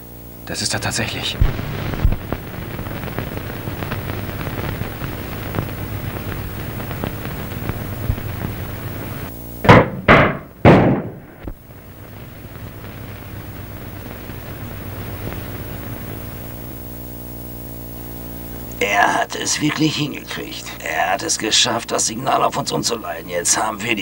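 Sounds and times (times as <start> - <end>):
steady crackling hiss: 0.0 - 24.0
crackling electrical bursts: 0.5 - 9.8, 10.4 - 24.0.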